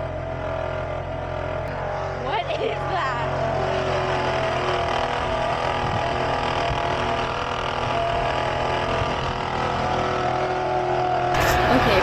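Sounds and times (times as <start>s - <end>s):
alternator rubbing and rattling: 0.0s - 12.0s
car engine running: 0.0s - 12.0s.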